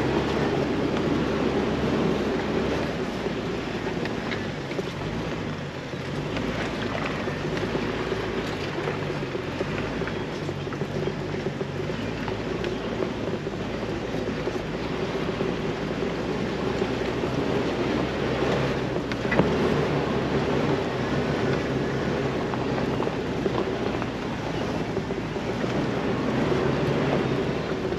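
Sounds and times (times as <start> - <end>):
engine rumbling at low speed: 0.0 - 27.9.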